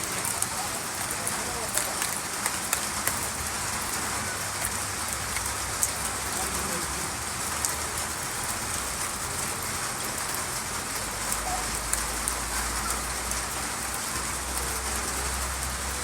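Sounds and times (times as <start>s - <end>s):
rain on a hard surface: 0.0s - 16.0s
sharp raindrops ticking: 0.0s - 16.0s.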